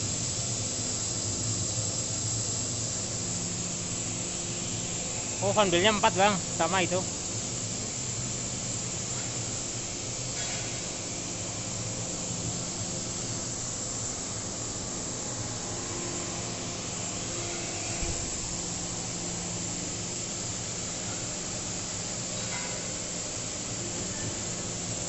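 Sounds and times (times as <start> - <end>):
low machinery hum with tones: 0.0 - 25.0
machinery hiss: 0.0 - 25.0.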